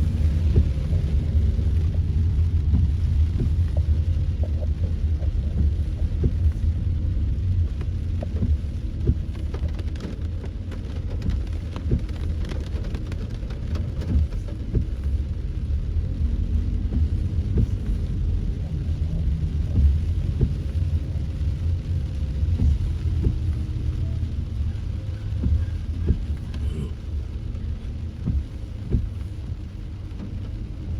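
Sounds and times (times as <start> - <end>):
engine and road rumble: 0.0 - 30.9
rain drops striking vehicle: 0.0 - 30.9.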